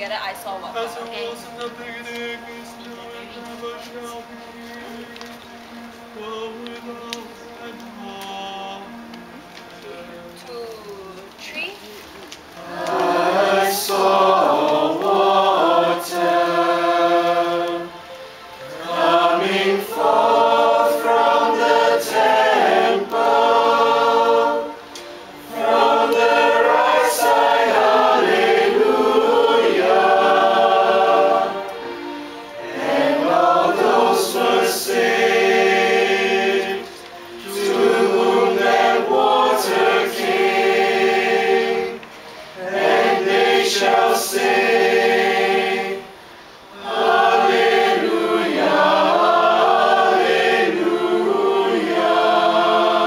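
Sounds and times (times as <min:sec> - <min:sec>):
men's choir singing a hymn: 0:00.5 - 0:11.4, 0:12.4 - 0:53.0.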